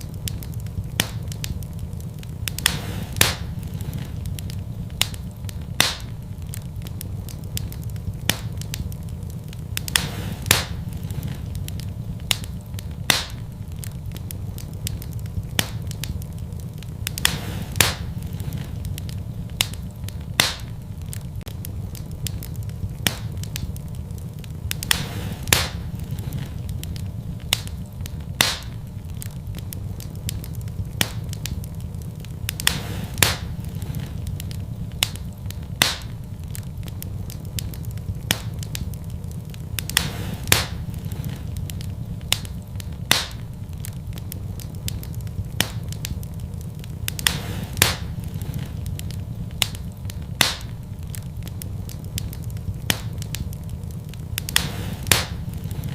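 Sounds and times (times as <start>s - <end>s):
fire crackling and popping: 0.0s - 55.9s
low rumble of flames: 0.0s - 55.9s.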